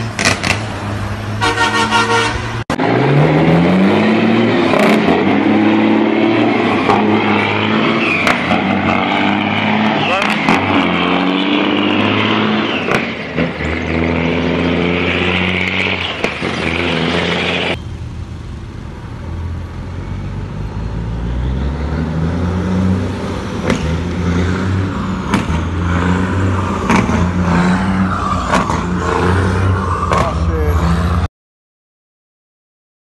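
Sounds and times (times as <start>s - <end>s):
diesel truck engine revving: 0.0s - 31.3s.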